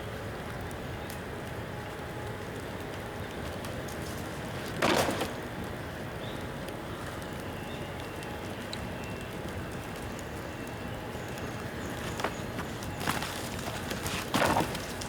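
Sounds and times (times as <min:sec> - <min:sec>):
bonfire hissing: 0:00.0 - 0:15.0
fire crackling: 0:00.0 - 0:15.0.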